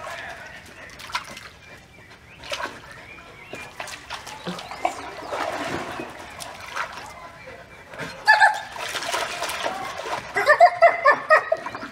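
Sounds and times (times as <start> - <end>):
dog lapping water: 0.0 - 11.9.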